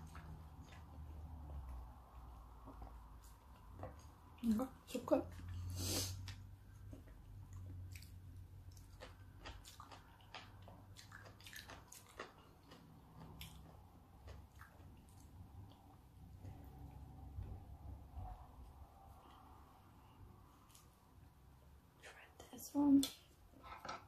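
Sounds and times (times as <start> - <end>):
low steady hum: 0.0 - 24.0
soft wet chewing: 0.0 - 24.0.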